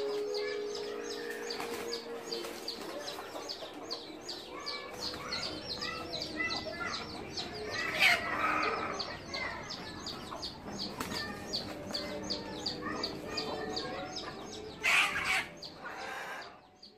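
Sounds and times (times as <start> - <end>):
small bird chirping: 0.0 - 16.9.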